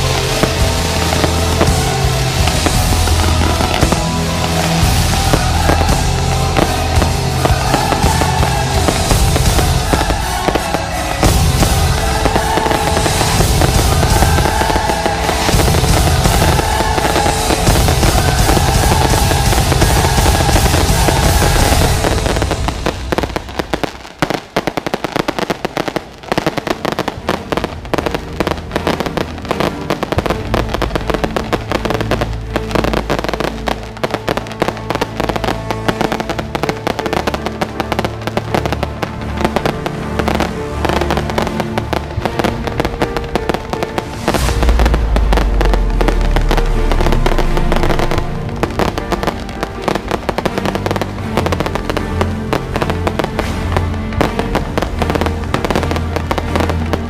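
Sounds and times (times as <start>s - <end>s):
firecrackers crackling: 0.0s - 57.0s
music playing: 0.0s - 57.0s.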